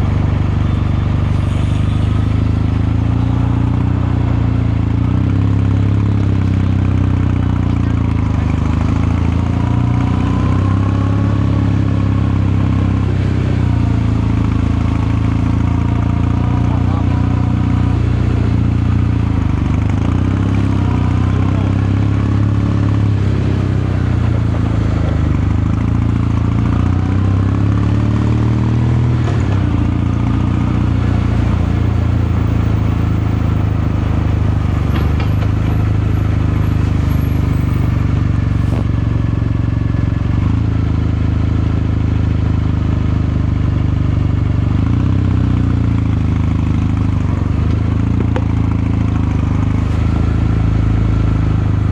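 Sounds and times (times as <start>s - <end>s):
motorcycle engine and exhaust running: 0.0s - 51.9s.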